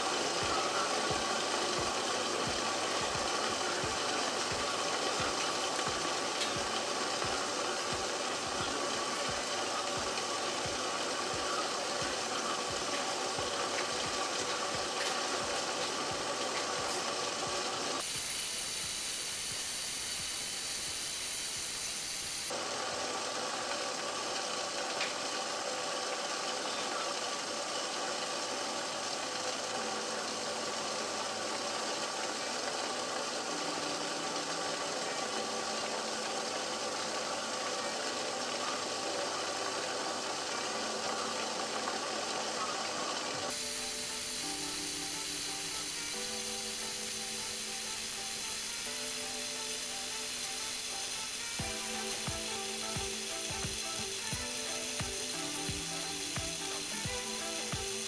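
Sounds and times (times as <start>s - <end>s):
alcohol stoves hissing: 0.0s - 58.0s.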